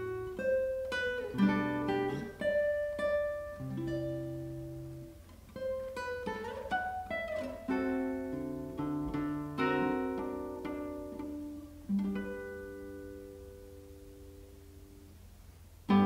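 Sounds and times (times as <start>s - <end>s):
solo classical guitar: 0.0s - 16.0s.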